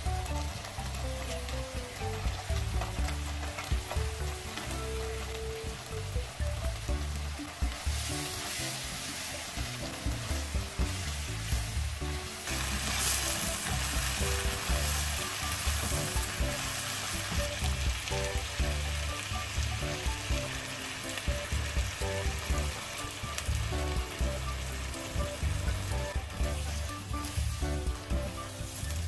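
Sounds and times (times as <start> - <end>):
food sizzling in a wok: 0.0 - 29.0
spatula stirring in a wok: 0.1 - 29.0.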